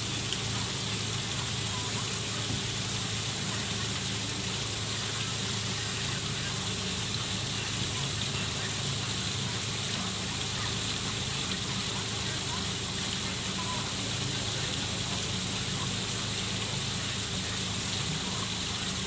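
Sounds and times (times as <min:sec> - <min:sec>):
waterfall splashing into pond: 0:00.0 - 0:19.0.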